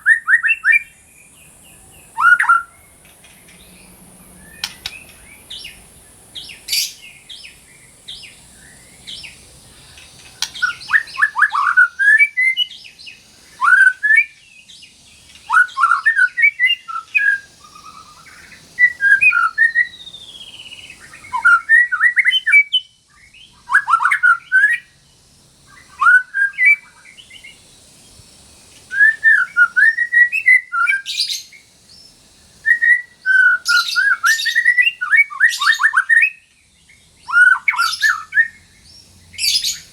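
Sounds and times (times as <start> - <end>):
bird singing whistled phrases: 0.0 - 1.0, 1.7 - 2.8, 4.4 - 5.8, 6.4 - 9.4, 10.4 - 25.0, 25.7 - 27.6, 28.9 - 39.9.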